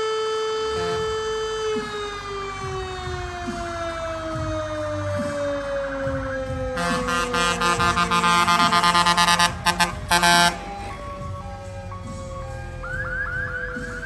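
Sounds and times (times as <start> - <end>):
faint wailing siren: 0.0 - 14.0
siren winding down: 0.0 - 14.0.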